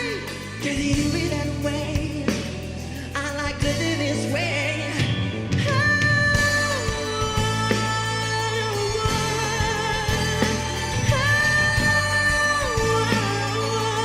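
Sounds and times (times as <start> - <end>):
steady bass line: 0.0 - 14.0.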